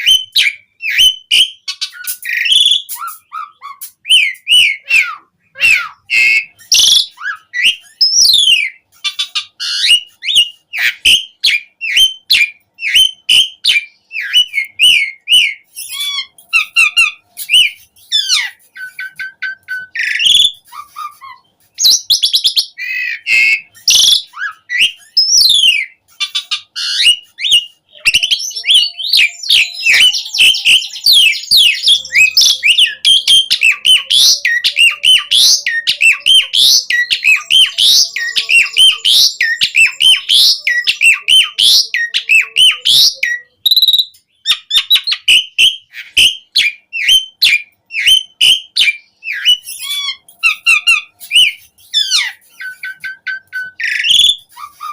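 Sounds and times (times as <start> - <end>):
starling singing: 0.0 - 54.9.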